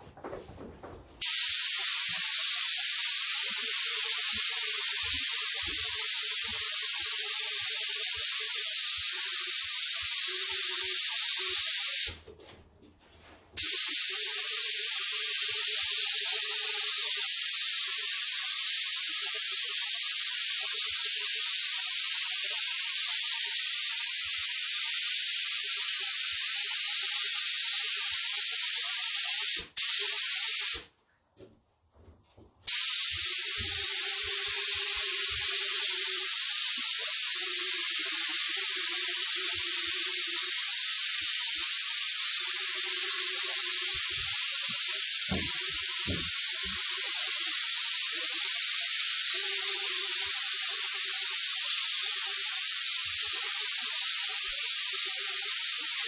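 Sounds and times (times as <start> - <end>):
paint spray hissing: 1.2 - 12.2, 13.6 - 30.9, 32.7 - 56.0.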